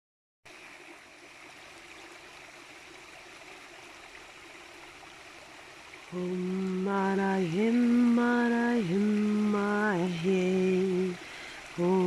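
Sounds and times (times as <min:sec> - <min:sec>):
stream flowing: 0:00.5 - 0:12.0.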